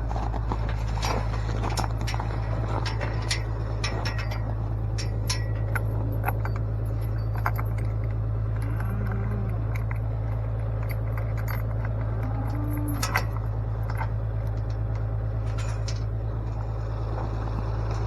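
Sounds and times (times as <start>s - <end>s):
metallic clinks and rattles: 0.0s - 16.6s
motor idling: 0.0s - 18.0s.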